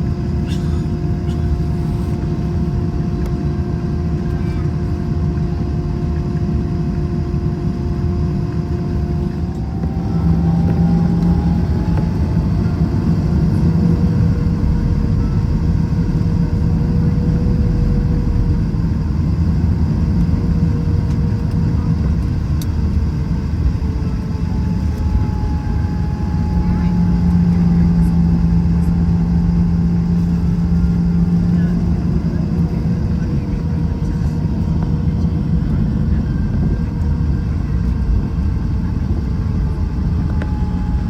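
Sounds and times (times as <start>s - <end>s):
jet engines rumbling: 0.0s - 41.0s
steady humming tones: 0.0s - 41.0s.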